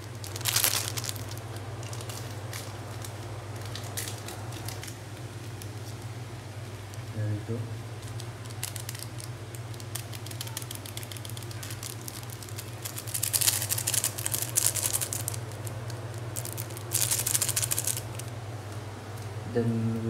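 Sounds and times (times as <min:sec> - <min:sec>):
foil sachet crinkling: 0:00.0 - 0:06.1, 0:08.0 - 0:18.4.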